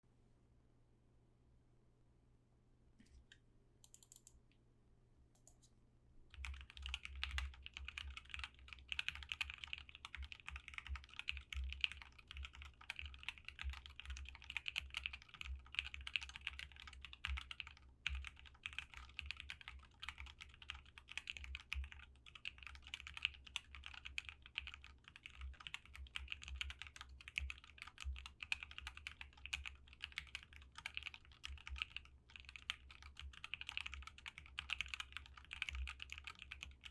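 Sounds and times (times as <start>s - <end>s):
mechanical keyboard typing: 3.8s - 4.3s, 6.3s - 36.9s.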